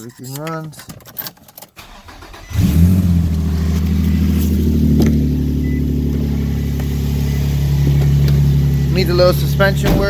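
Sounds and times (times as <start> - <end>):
car engine idling: 1.8 - 10.0.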